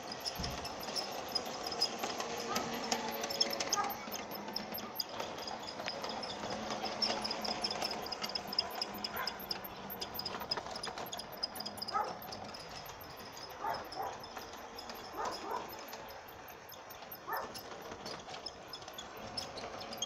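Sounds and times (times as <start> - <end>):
model train motor hum: 0.0 - 20.0.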